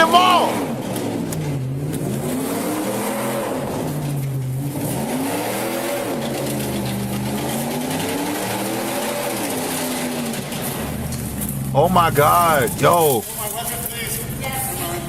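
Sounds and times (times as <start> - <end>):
pickup truck engine revving: 0.0 - 13.2.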